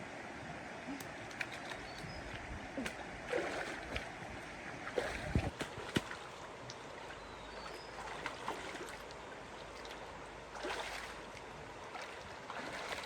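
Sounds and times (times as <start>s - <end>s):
flowing water rushing: 0.6s - 13.0s
water splashes: 0.9s - 13.0s.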